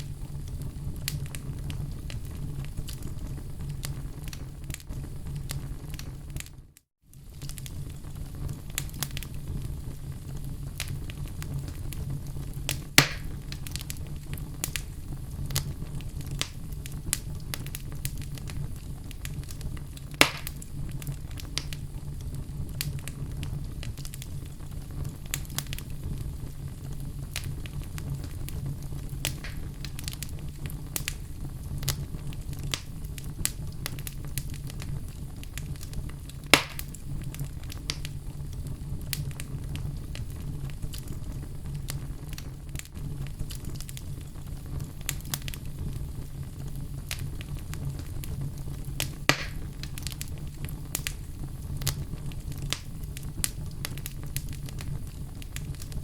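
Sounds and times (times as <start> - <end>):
logs crackling in fire: 0.0 - 56.0
loud fire pops: 0.0 - 56.0
low steady fire rumble: 0.0 - 56.0.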